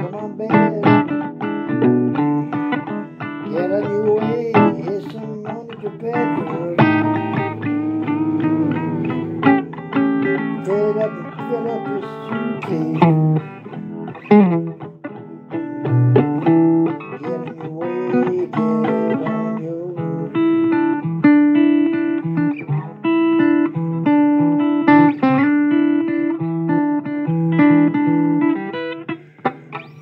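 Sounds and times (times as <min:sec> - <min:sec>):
blues guitar playing: 0:00.0 - 0:30.0.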